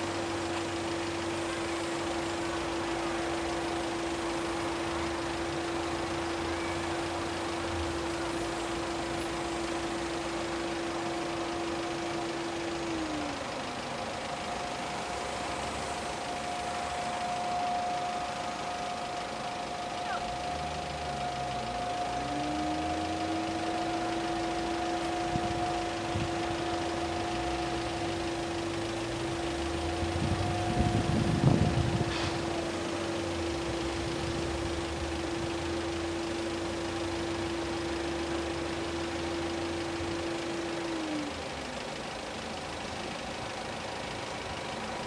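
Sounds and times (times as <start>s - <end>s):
motor whine: 0.0s - 45.0s.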